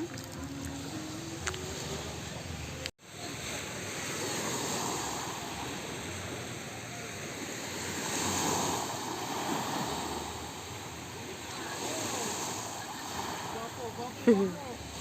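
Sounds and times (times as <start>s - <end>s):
sea water lapping: 0.0s - 15.0s.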